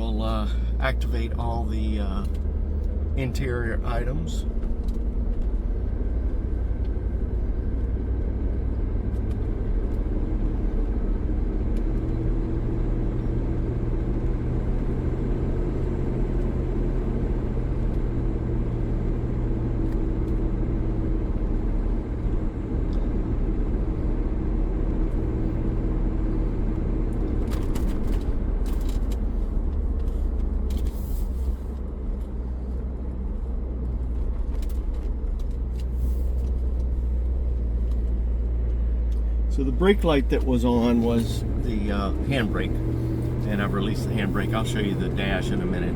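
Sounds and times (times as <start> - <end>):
car engine hum inside cabin: 0.0 - 45.9.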